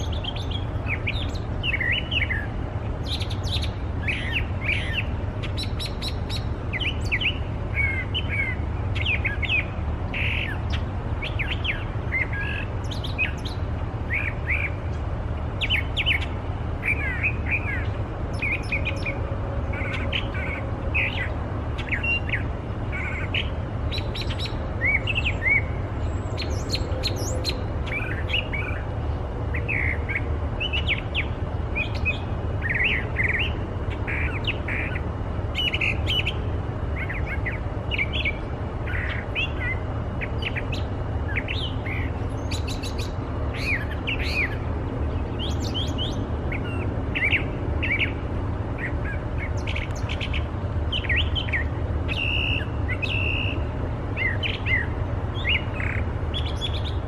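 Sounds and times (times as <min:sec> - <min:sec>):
bird singing varied phrases: 0:00.0 - 0:57.0.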